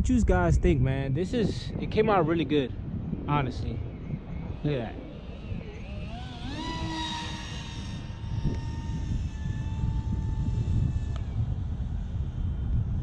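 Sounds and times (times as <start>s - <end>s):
wind rumble on microphone: 0.0s - 13.0s
electric motor whining: 1.9s - 13.0s.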